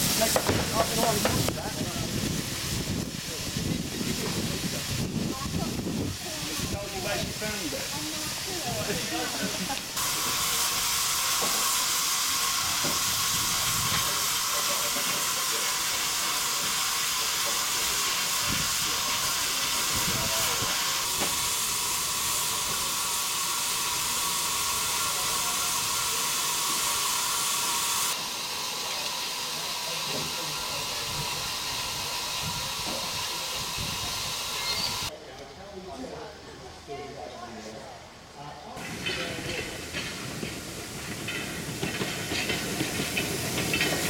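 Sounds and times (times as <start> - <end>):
steam hissing from locomotive: 0.0 - 35.1, 38.8 - 44.0.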